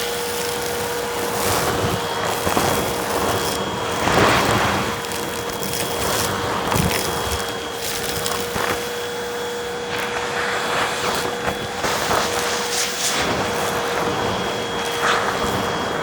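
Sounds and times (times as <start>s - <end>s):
debris crackling in vacuum: 0.0s - 16.0s
vacuum cleaner motor whine: 0.0s - 16.0s.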